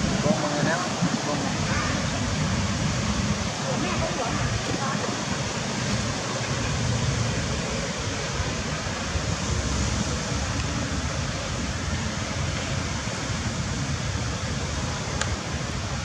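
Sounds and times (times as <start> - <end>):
fluctuating low rumble: 0.0 - 16.0
steady rushing noise: 0.0 - 16.0.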